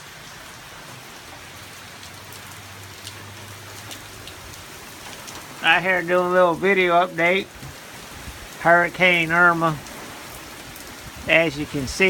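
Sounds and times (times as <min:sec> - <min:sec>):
heavy rain hiss: 0:00.0 - 0:12.0
raindrop ticks: 0:02.0 - 0:12.0.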